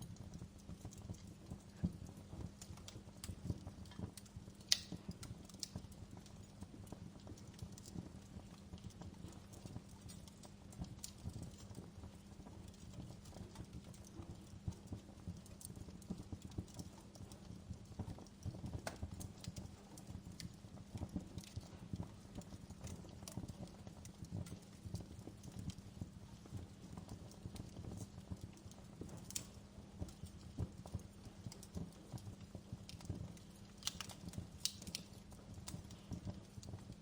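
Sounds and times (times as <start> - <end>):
low rumble of burning fire: 0.0 - 37.0
wood fire crackling: 0.0 - 37.0.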